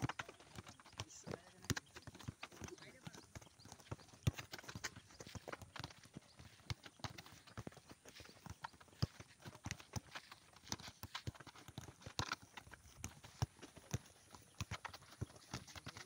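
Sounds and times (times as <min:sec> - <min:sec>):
footballs being kicked: 0:00.0 - 0:16.0.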